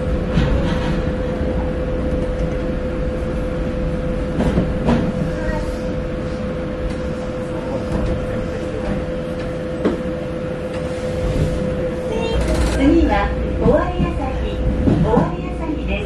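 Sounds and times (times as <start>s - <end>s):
train cab hum: 0.0s - 16.0s.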